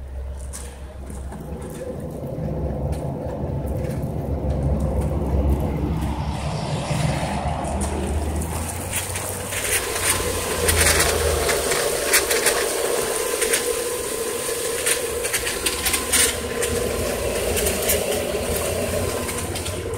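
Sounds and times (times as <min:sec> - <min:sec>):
pool pump humming: 0:00.0 - 0:19.9
water jet hissing and spitting: 0:00.1 - 0:19.9.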